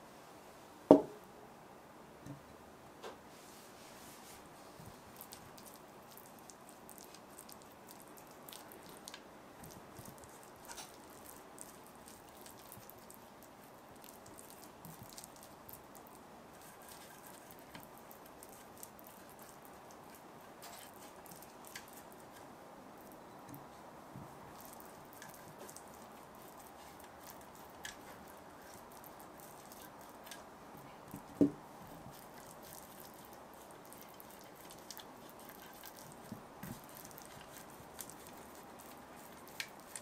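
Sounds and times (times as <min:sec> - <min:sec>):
soft wet brushing: 0:03.3 - 0:40.0.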